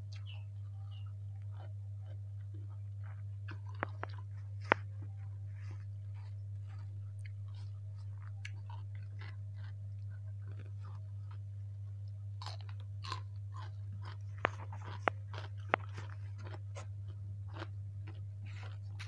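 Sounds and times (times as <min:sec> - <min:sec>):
steady low hum: 0:00.0 - 0:19.0
chewing and mouth sounds: 0:00.1 - 0:19.0.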